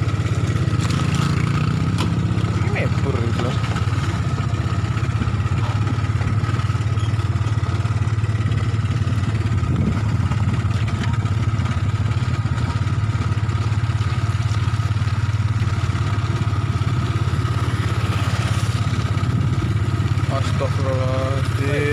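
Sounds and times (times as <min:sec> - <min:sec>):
motorcycle engine running slowly: 0:00.0 - 0:21.9.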